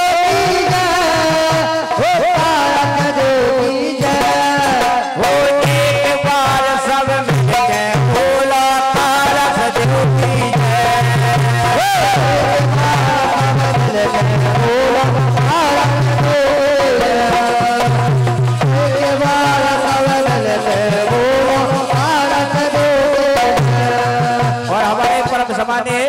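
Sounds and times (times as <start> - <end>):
men singing into microphones: 0.0 - 26.0
repeating drum beat: 0.0 - 26.0.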